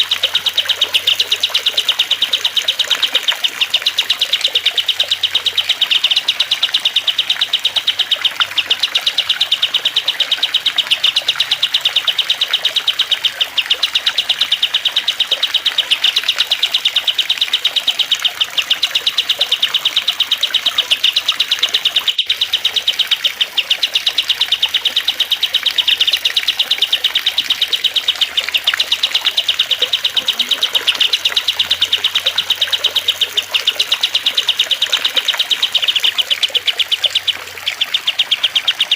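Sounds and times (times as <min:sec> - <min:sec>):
high bird chirps: 0:00.0 - 0:38.9
trickling water: 0:00.0 - 0:38.9.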